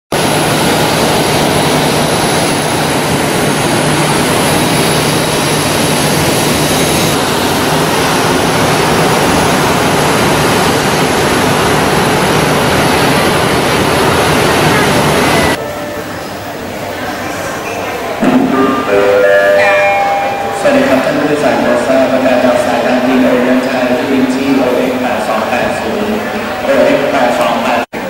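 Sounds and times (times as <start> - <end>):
aircraft engine roar: 0.1 - 28.0.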